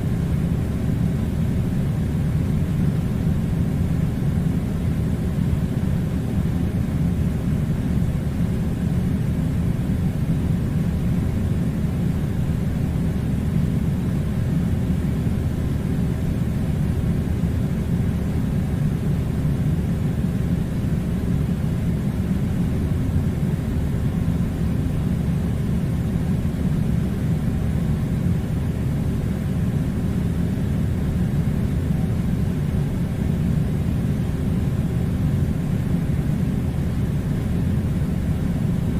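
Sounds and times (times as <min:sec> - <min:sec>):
air conditioner humming: 0:00.0 - 0:38.9.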